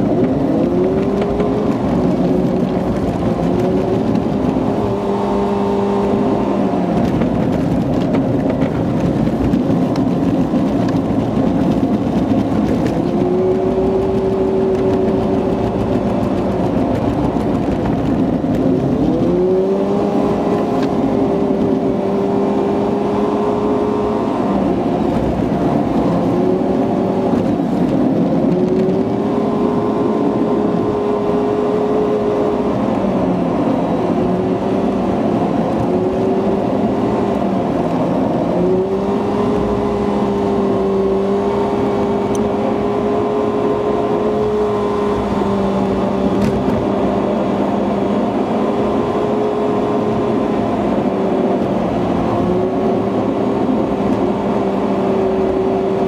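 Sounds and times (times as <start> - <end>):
car engine hum: 0.0 - 56.0
road noise inside car: 0.0 - 56.0.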